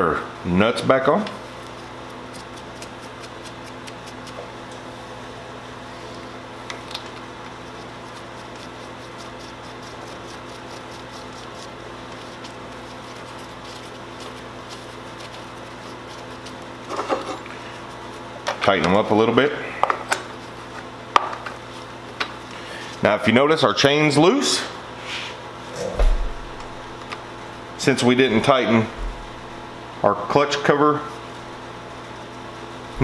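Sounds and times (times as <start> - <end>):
fan-like room drone: 0.0 - 33.0.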